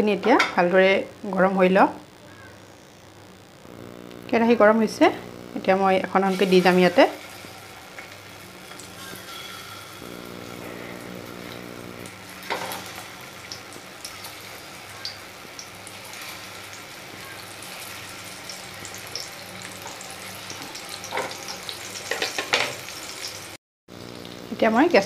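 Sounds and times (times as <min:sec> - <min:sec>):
food sizzling in hot oil: 0:03.0 - 0:25.0.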